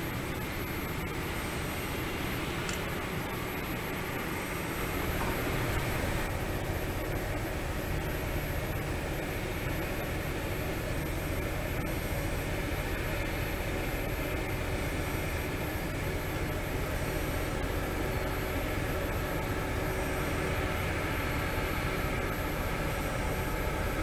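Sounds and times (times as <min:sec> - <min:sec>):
diesel locomotive engine droning: 0:00.0 - 0:24.0.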